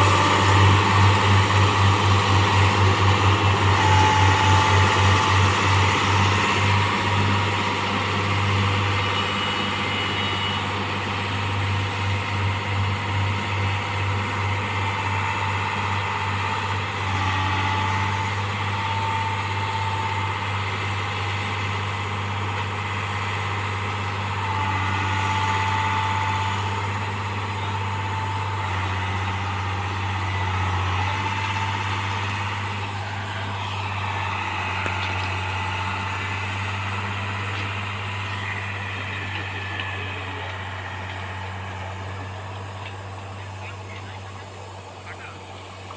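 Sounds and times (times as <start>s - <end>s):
diesel engine running: 0.0s - 45.9s
faint mechanical whines: 0.0s - 45.9s.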